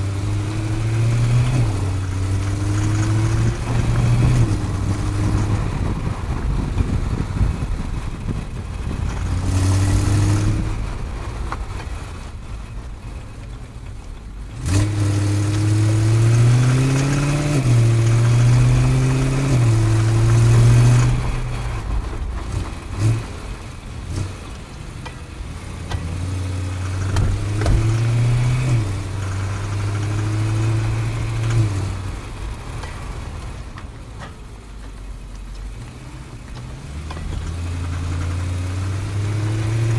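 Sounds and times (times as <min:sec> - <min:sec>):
car engine and driveshaft running: 0:00.0 - 0:39.9.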